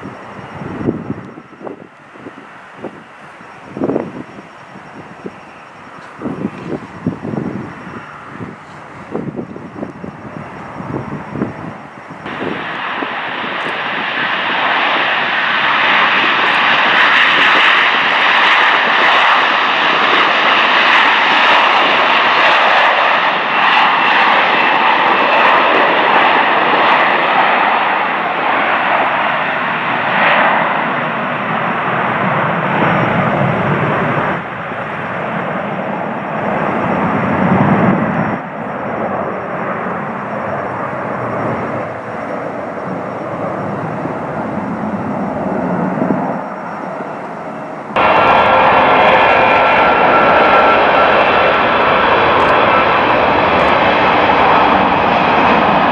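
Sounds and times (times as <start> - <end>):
jet engines at takeoff power: 0.0 - 55.9.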